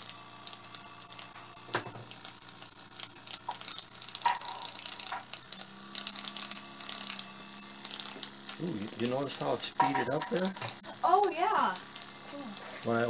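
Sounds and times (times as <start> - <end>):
steam engine ticking buzz: 0.0 - 13.0
steam hissing: 0.0 - 13.0.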